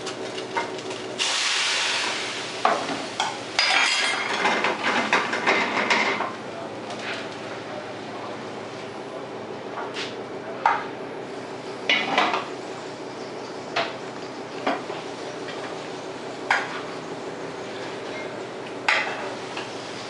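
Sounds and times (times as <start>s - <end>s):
steady kitchen hum: 0.0s - 20.0s.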